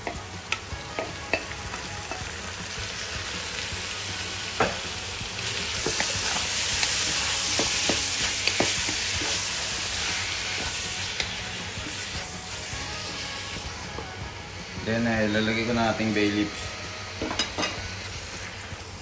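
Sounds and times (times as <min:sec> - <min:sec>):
beef sizzling in pan: 0:00.0 - 0:19.0.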